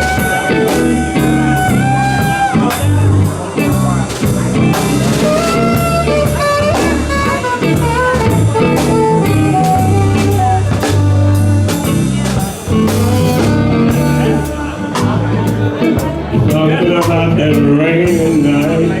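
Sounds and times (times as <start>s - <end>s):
bass notes: 0.0s - 19.0s
drum kit beat: 0.0s - 19.0s
lead instrument melody: 0.0s - 19.0s.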